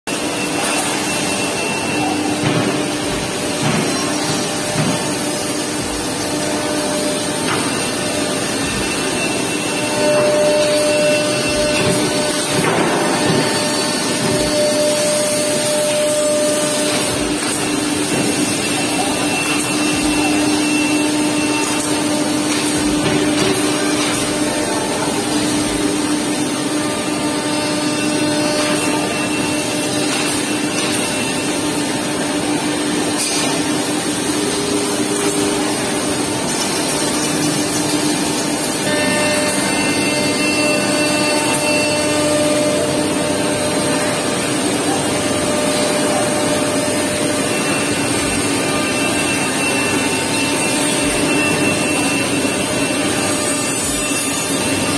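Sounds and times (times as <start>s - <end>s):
router spindle whine: 0.1s - 54.9s
wood cutting noise: 0.1s - 54.9s.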